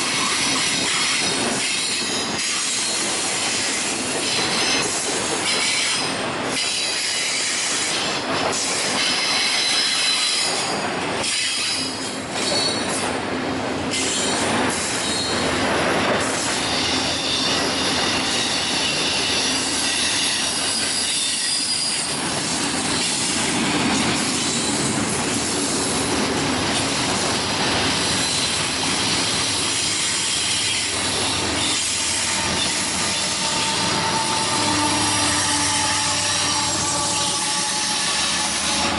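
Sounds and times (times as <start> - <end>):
wheels squealing on rail: 0.0 - 13.2, 13.9 - 38.9.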